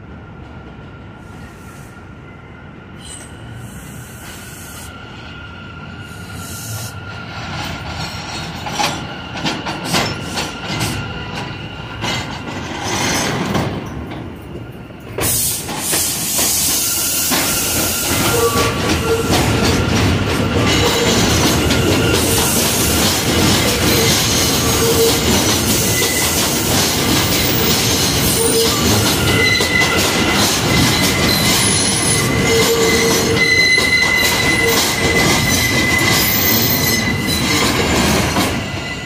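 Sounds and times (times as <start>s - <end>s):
train wheels clattering: 7.4s - 39.0s.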